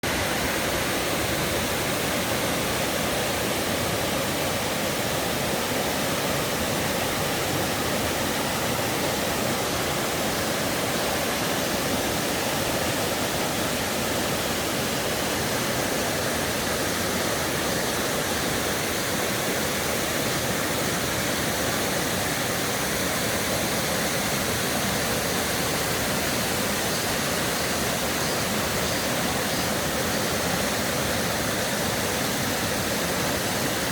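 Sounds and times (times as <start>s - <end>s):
water rushing in rocky stream: 0.0s - 33.9s.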